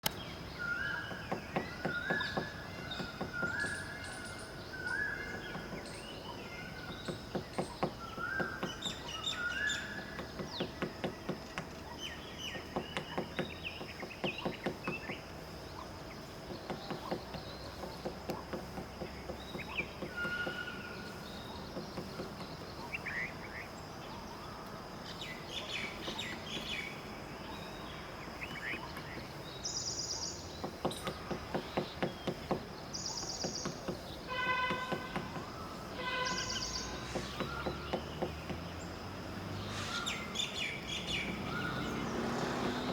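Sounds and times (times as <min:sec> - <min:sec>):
woodpecker tapping on wood: 0:00.0 - 0:23.5, 0:25.6 - 0:27.1, 0:28.4 - 0:29.6, 0:30.4 - 0:42.9
songbirds chirping: 0:00.0 - 0:42.9.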